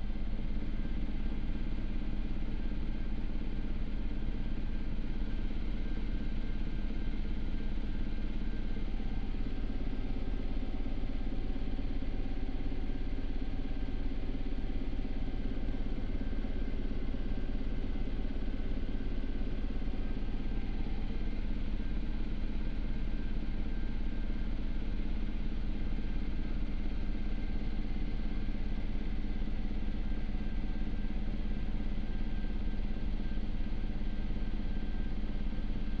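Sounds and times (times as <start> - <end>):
helicopter cockpit drone: 0.0 - 36.0.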